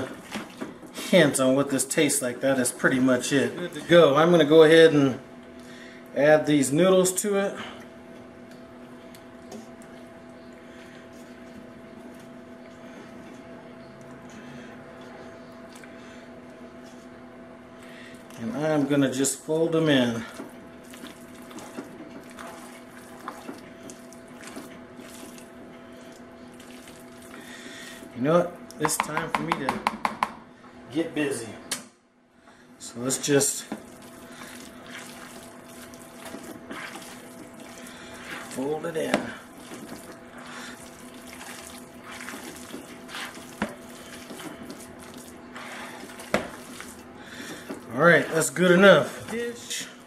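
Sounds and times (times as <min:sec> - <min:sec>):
wet squelching of spatula mixing: 0:00.0 - 0:04.0, 0:07.1 - 0:28.2, 0:33.0 - 0:50.0
faint steady hum: 0:00.0 - 0:50.0.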